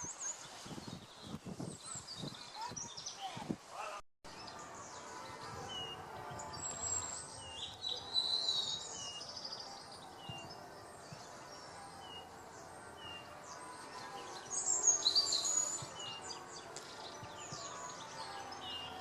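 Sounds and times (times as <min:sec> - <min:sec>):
birds twittering song: 0:00.0 - 0:03.6, 0:04.3 - 0:19.0
birds chirping: 0:00.0 - 0:19.0.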